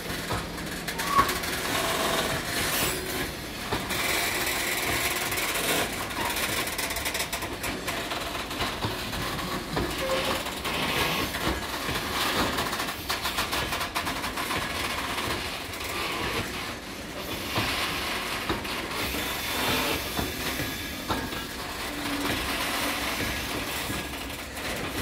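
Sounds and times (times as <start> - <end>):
train rumble: 0.0 - 25.0
wheels clattering over rail joints: 0.0 - 25.0.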